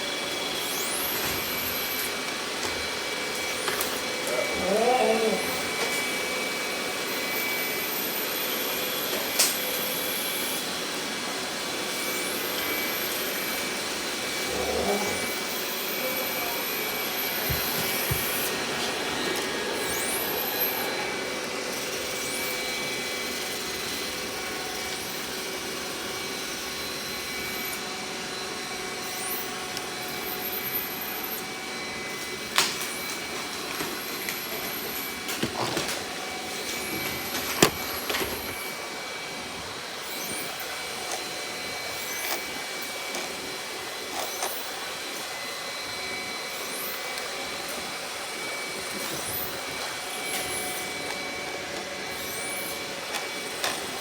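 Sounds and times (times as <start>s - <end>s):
robot vacuum cleaner whirring: 0.0s - 54.0s.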